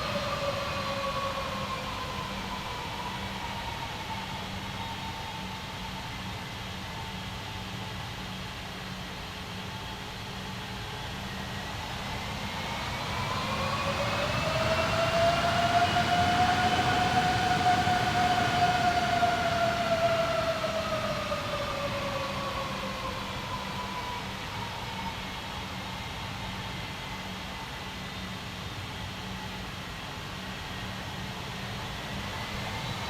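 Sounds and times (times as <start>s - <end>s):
jet engines whining: 0.0s - 6.7s, 9.2s - 33.0s.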